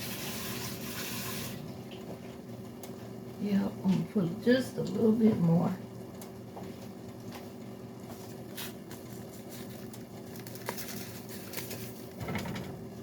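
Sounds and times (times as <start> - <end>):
kitchen appliance humming: 0.0 - 13.0.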